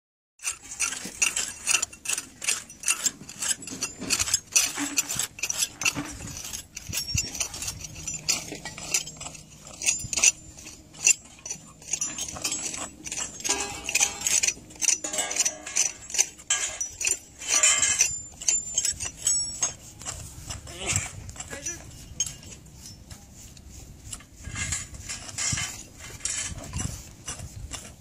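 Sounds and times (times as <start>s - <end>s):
metal trowels scraping stony soil: 0.4s - 28.0s.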